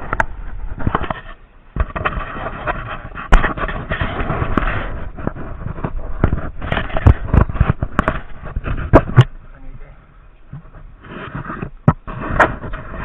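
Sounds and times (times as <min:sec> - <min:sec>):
sharp cracks and knocks: 0:00.0 - 0:09.4, 0:10.5 - 0:13.0
rough scraping: 0:00.0 - 0:13.0.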